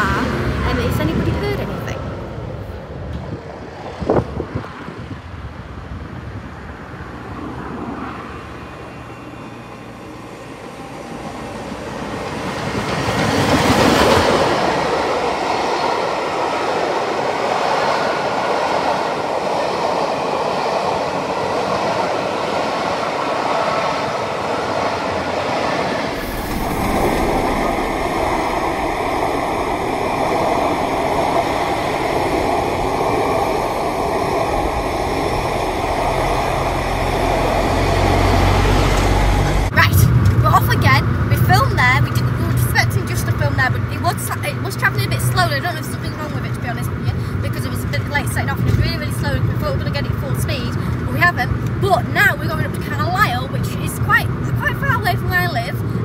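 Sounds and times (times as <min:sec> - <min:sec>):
steam locomotive passing: 0:00.0 - 0:56.0
train coaches rolling past: 0:00.0 - 0:56.0.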